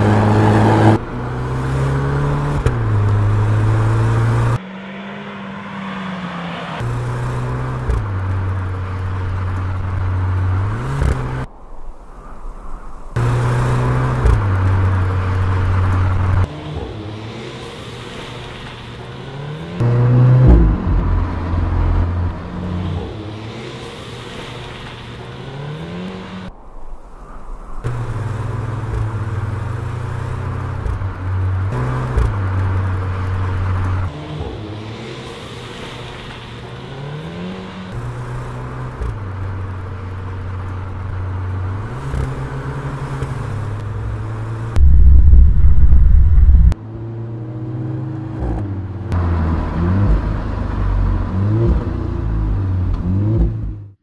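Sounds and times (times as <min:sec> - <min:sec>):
car engine and exhaust revving: 0:00.0 - 0:11.6, 0:12.8 - 0:54.0.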